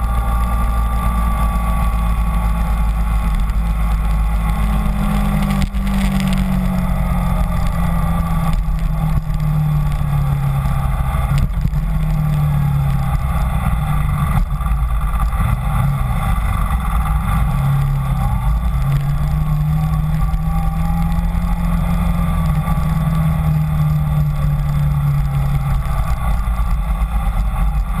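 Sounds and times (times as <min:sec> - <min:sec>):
motorcycle engine running: 0:00.0 - 0:28.0
wind rumble on microphone: 0:00.0 - 0:28.0.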